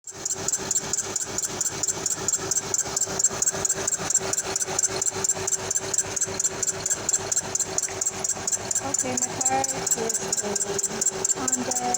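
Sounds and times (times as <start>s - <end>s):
engine ticking clatter: 0.0s - 11.9s
steady engine tone: 0.0s - 11.9s.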